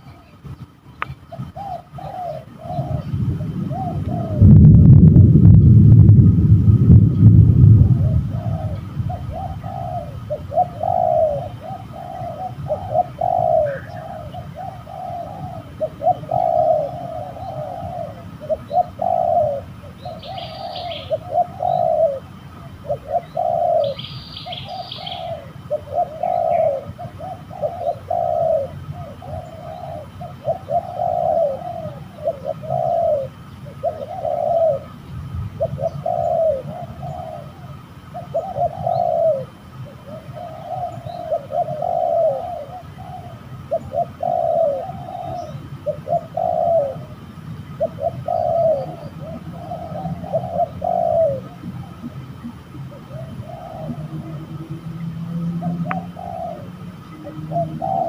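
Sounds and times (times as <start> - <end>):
dove cooing: 0.0 - 58.0
low steady rumble: 0.0 - 58.0
bird chirps: 8.4 - 58.0.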